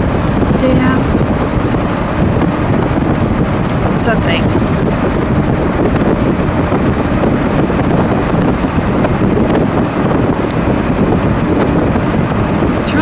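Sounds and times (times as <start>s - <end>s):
road and wind rumble in car: 0.0s - 13.0s.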